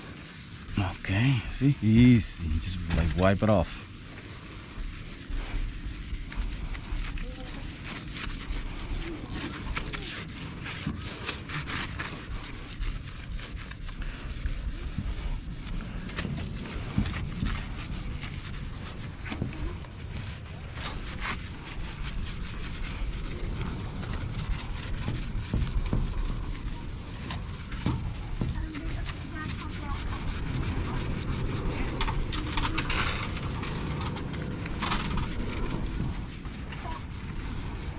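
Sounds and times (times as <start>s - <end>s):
sponge scrubbing truck panel: 0.0s - 37.9s
steady low rumble: 0.0s - 37.9s.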